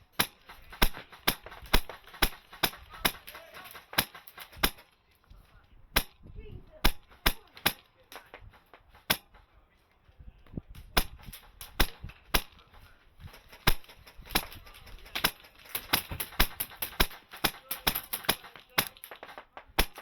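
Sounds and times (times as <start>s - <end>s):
airsoft guns firing: 0.0s - 5.0s, 5.9s - 9.5s, 10.8s - 20.0s.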